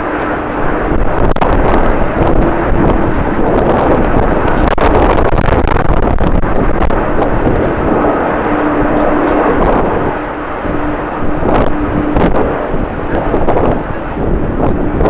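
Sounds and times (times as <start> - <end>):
jet engines rumbling: 0.0 - 15.0
steady hum: 0.0 - 15.0
wind buffeting microphone: 0.0 - 15.0.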